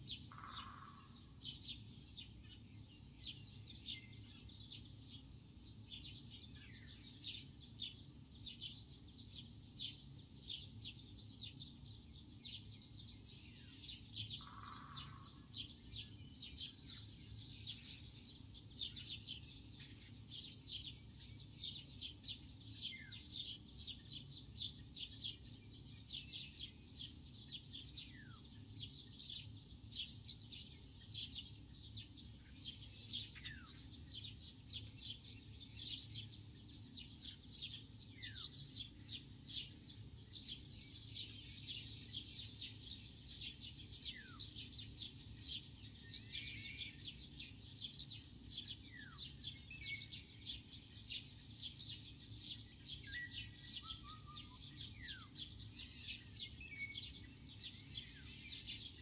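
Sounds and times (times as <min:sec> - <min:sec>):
birds chirping in chorus: 0:00.0 - 0:59.0.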